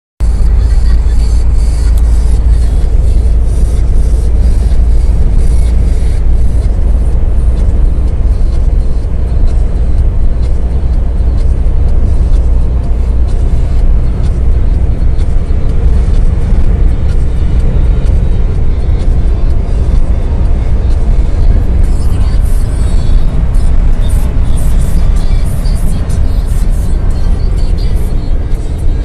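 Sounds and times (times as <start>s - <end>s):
truck engine and road noise: 0.2s - 29.0s.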